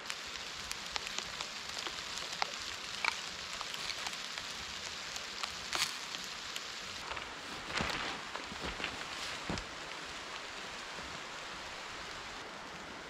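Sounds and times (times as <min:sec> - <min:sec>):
fire crackling pops: 0:00.0 - 0:12.4
fire hissing: 0:00.0 - 0:13.0.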